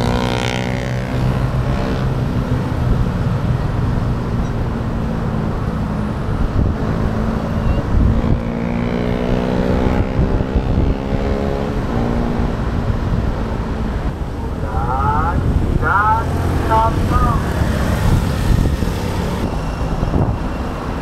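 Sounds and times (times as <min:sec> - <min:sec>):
engine speeding up: 0:00.0 - 0:21.0
motorcycle and car engines: 0:00.0 - 0:21.0
wind rumble on microphone: 0:00.0 - 0:21.0.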